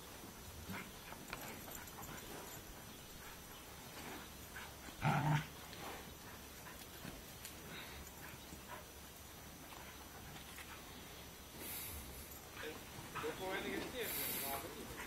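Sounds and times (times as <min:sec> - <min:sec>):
scuffs on loose dirt: 0:00.0 - 0:15.0.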